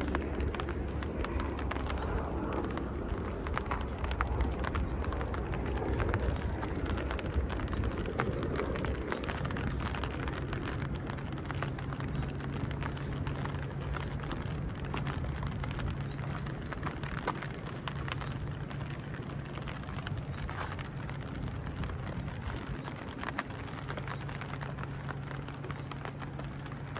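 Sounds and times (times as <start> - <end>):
low rumble: 0.0 - 26.9
rain pattering on hard surfaces: 0.0 - 26.9
steady low hum: 0.0 - 26.9.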